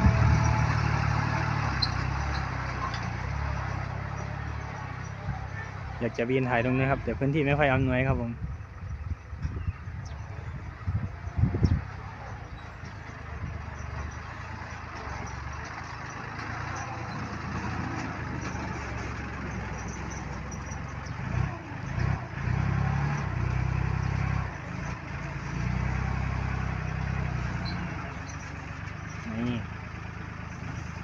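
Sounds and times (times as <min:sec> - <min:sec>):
tractor diesel engine: 0:00.0 - 0:31.0.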